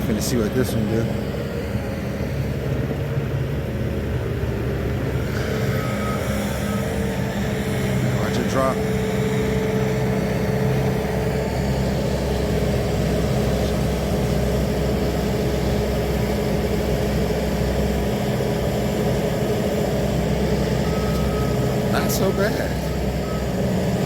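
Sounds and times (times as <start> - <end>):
heavy engine running: 0.0 - 24.0.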